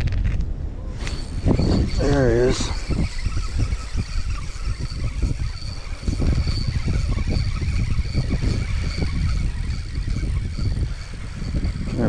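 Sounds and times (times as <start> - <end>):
wind buffeting microphone: 0.0 - 12.0
fishing reel whine: 0.9 - 12.0.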